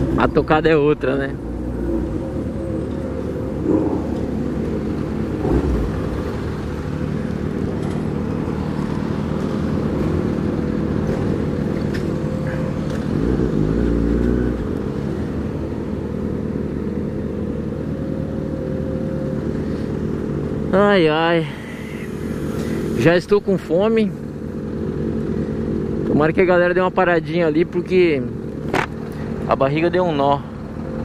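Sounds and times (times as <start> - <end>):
road and wind noise: 0.0 - 31.0
motorcycle engine running: 1.3 - 29.5.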